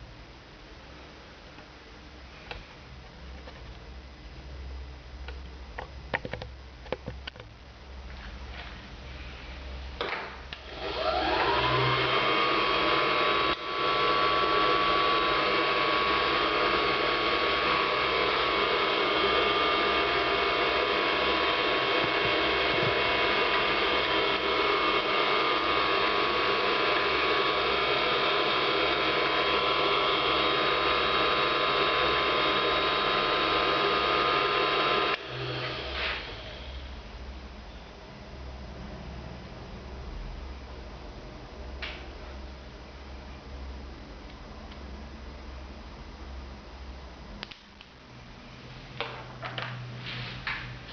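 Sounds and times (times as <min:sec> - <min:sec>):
fan motor whine: 0:00.0 - 0:50.9.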